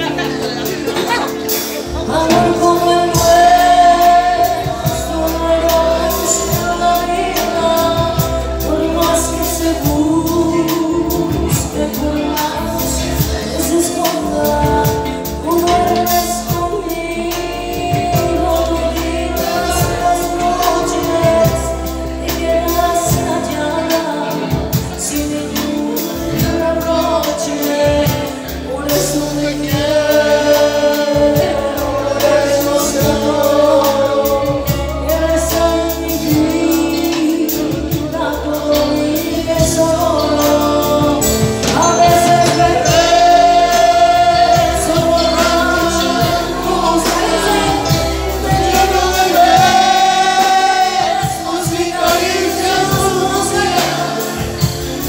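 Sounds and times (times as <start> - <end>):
guitar: 0.0 - 55.0
keyboard: 0.0 - 55.0
woman singing a ballad: 0.0 - 55.0.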